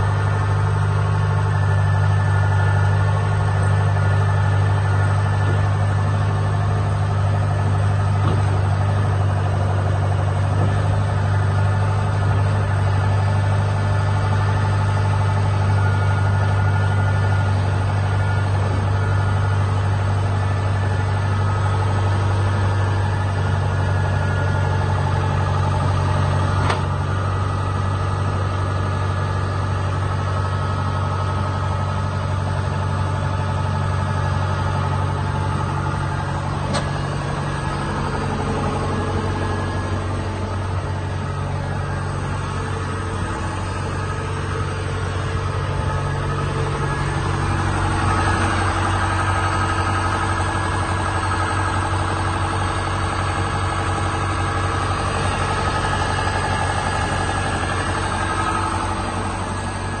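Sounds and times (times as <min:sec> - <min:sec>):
combine harvester diesel engine: 0:00.0 - 1:00.0.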